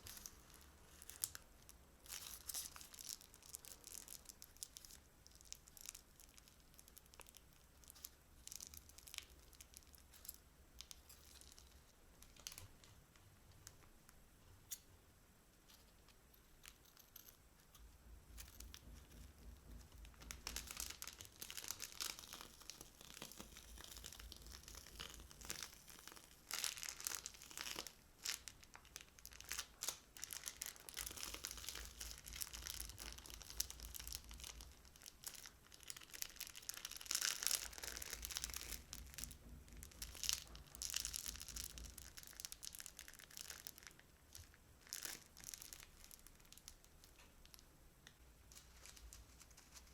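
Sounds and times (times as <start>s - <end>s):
crunchy slime crackling: 0.0s - 12.9s, 18.6s - 47.6s, 48.4s - 49.9s.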